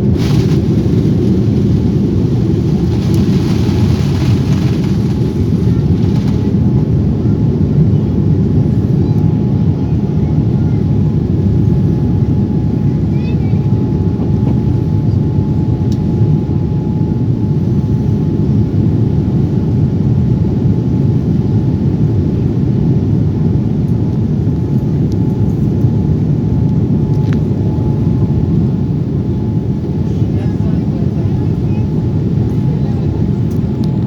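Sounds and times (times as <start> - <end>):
engine and airflow rumble: 0.0 - 34.0.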